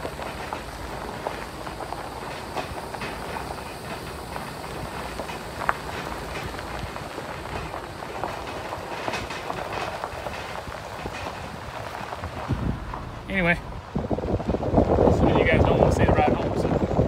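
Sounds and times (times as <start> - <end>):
trailer load rattling: 0.0 - 17.0
tyres on gravel road: 0.0 - 17.0.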